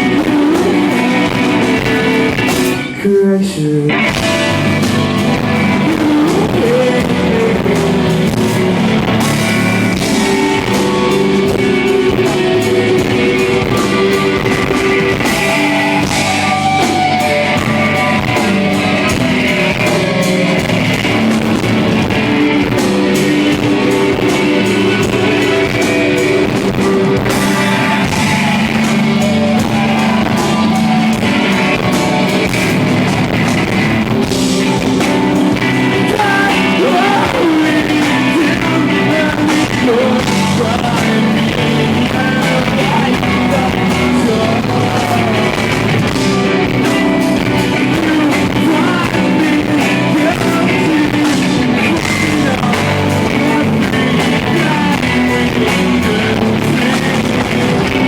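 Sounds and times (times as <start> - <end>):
drums: 0.0 - 58.0
electric guitars: 0.0 - 58.0
live rock band playing: 0.0 - 58.0
person singing: 0.0 - 58.0.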